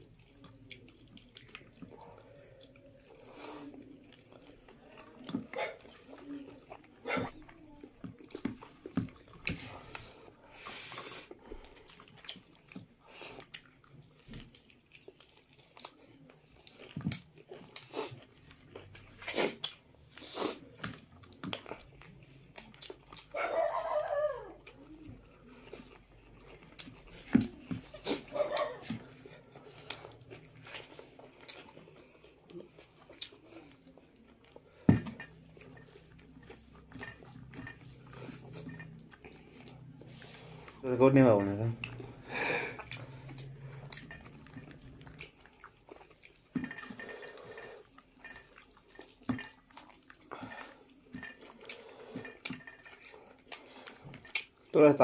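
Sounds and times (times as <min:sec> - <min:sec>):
people chewing and lip-smacking: 0:00.0 - 0:55.0.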